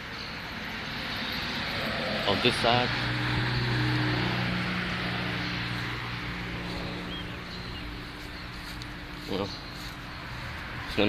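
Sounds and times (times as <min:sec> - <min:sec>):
outdoor background noise: 0:00.0 - 0:11.0
low engine hum: 0:00.1 - 0:11.0.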